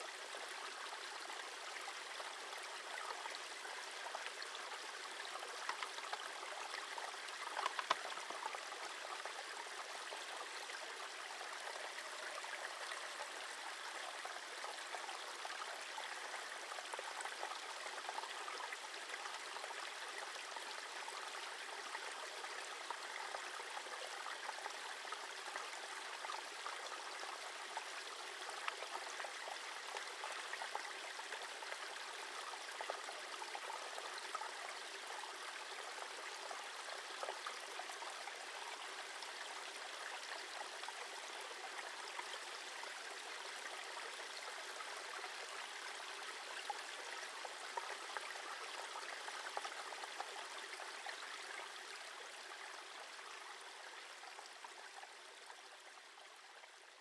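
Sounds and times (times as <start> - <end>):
stream gurgling: 0.0 - 57.0.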